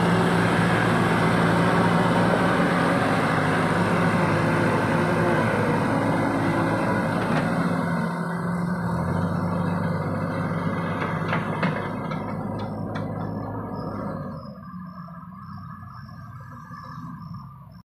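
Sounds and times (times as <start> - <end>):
diesel engines running hard: 0.0 - 17.8.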